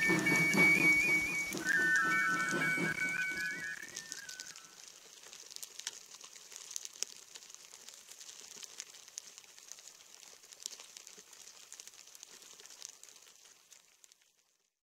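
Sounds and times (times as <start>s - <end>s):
faint crackling clicks: 0.0s - 14.6s.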